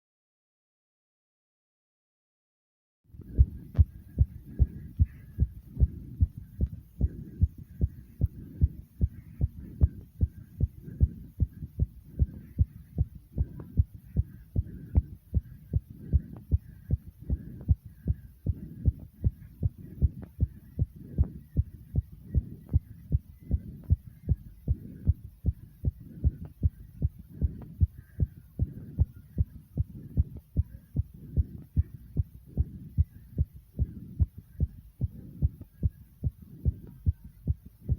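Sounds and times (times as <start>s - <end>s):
low hum: 3.1s - 37.9s
rapid heartbeat thumps: 3.1s - 37.9s.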